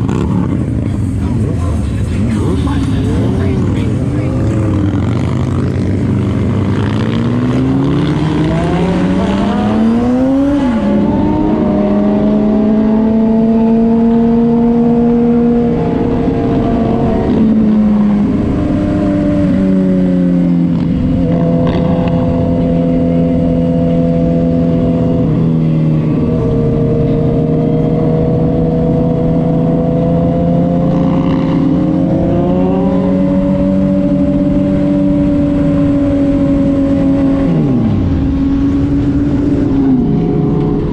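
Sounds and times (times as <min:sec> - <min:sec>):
road and wind noise: 0:00.0 - 0:40.9
vehicle engine revving: 0:00.0 - 0:40.9.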